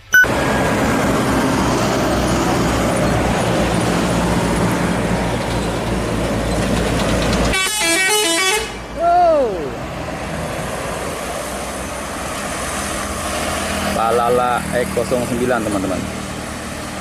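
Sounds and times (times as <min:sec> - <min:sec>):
bus diesel engine drone: 0:00.0 - 0:17.0
traffic: 0:00.0 - 0:17.0.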